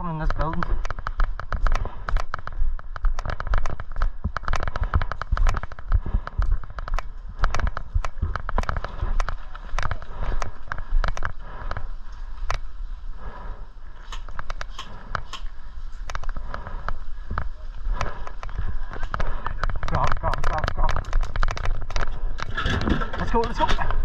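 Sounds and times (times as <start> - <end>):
airsoft guns popping: 0.2 - 12.7, 14.0 - 24.0.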